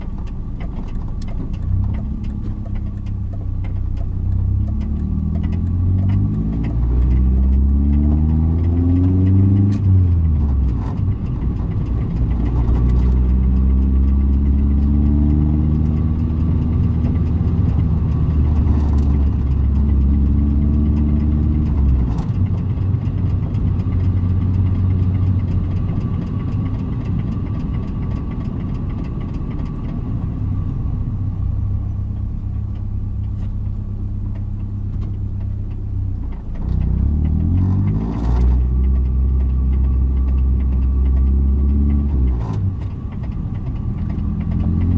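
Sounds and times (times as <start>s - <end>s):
car engine revving and idling: 0.0s - 44.9s
rapid clicking from engine: 0.0s - 44.9s.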